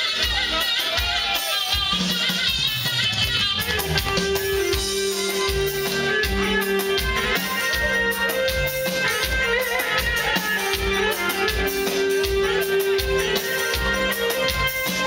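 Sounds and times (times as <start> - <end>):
held melody notes: 0.0 - 15.0
steady drum beat: 0.0 - 15.0.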